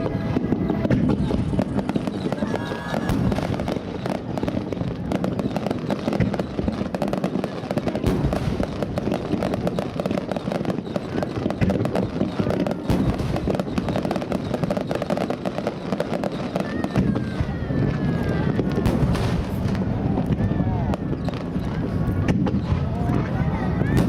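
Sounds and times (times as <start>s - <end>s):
fireworks bangs and crackles: 0.0s - 24.0s
loud fireworks booms: 0.0s - 24.0s.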